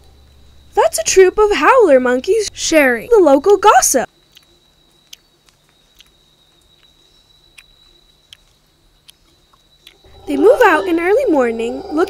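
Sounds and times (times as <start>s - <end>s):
high-pitched insect tone: 0.0s - 12.0s.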